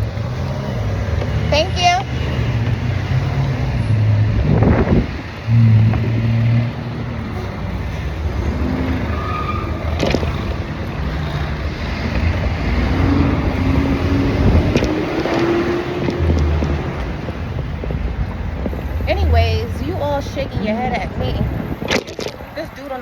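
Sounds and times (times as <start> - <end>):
vehicle traffic passing: 0.0 - 23.0.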